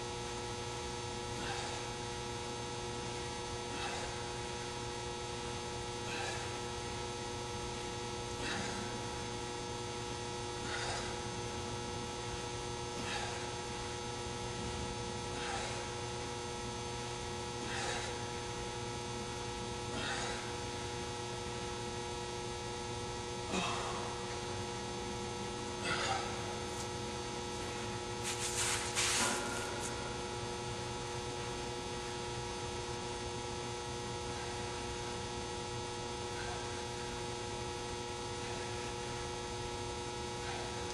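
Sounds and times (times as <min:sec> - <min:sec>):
electrical hum: 0:00.0 - 0:40.9.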